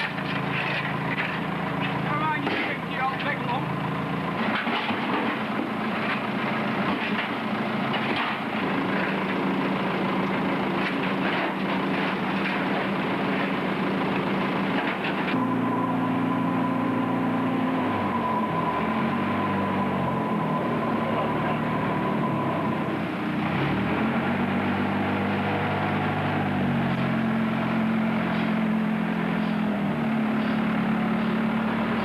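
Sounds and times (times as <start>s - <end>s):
vehicle engine drone: 0.0s - 32.0s.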